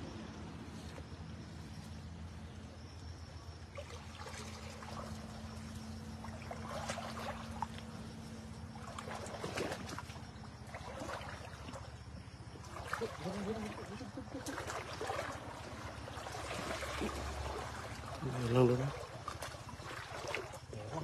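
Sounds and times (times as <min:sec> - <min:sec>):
water splashing from wading: 0:03.0 - 0:21.0.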